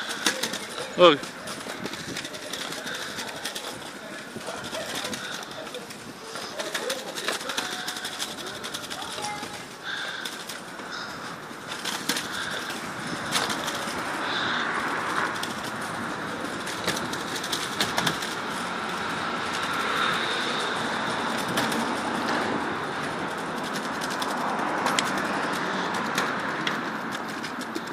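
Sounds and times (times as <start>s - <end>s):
scooter clicks: 0.0s - 27.9s
scooter wheels rattling on bricks: 0.0s - 27.9s.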